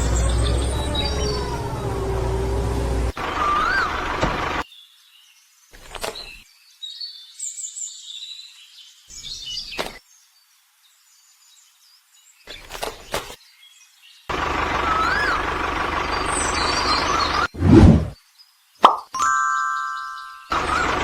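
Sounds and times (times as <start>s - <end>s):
small birds chirping: 0.0s - 18.9s, 19.7s - 21.0s.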